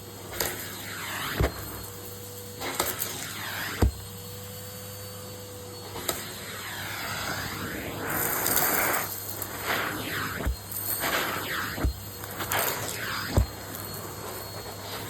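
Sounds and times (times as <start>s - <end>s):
vacuum cleaner hum: 0.0s - 15.0s.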